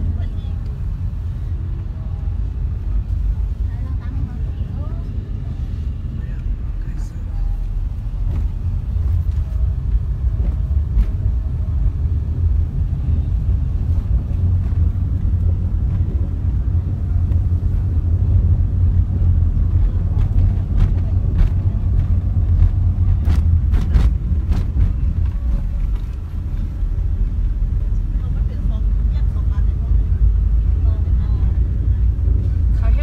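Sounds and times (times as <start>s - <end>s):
car driving heard from cabin: 0.0s - 33.0s.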